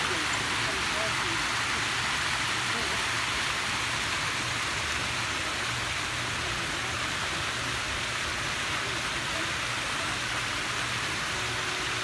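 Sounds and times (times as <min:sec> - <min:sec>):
waterfall splashing into stream: 0:00.0 - 0:12.0.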